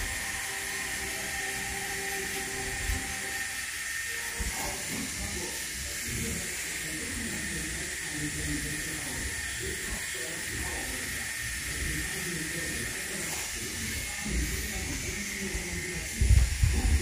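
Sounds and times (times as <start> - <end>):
tattoo machine whining: 0.0 - 17.0.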